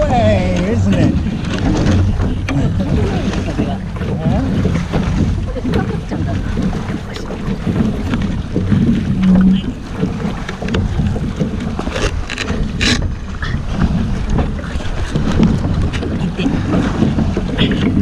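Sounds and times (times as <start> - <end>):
water moving along hull: 0.0 - 18.0
wind buffeting microphone: 0.0 - 18.0.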